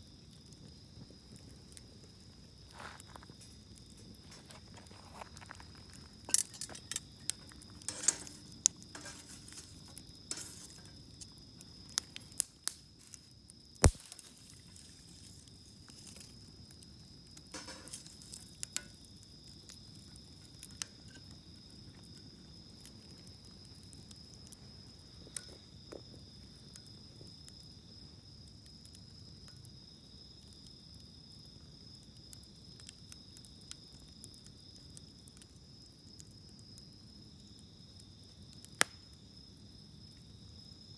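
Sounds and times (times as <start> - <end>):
campfire crackling and popping: 0.0 - 39.3
shrill insect trill: 0.0 - 40.9.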